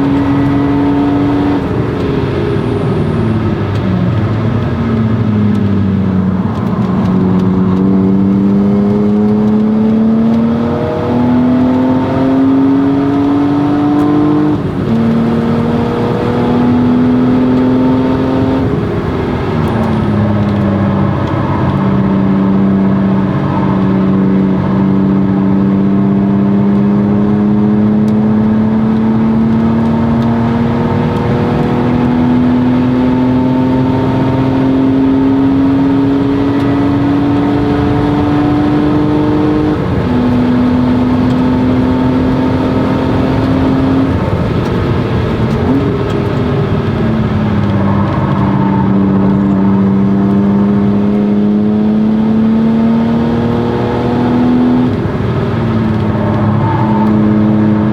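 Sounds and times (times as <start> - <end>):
car engine accelerating hard: 0.0 - 57.9.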